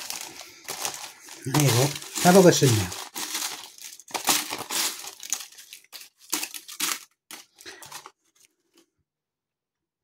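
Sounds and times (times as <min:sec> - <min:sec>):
crisp packet crinkling: 0:00.0 - 0:08.8
crisps rustling and clattering: 0:00.0 - 0:09.0.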